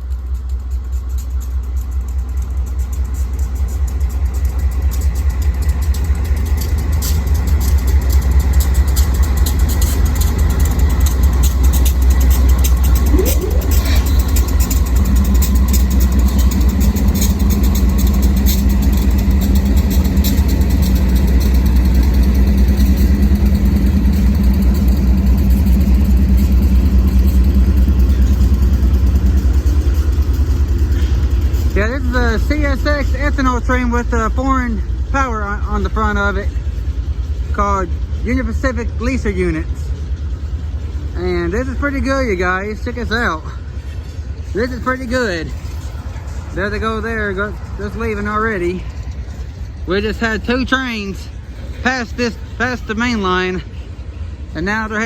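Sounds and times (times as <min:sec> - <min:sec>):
diesel locomotive engine rumbling: 0:00.0 - 0:55.0
steady hum: 0:00.0 - 0:55.0.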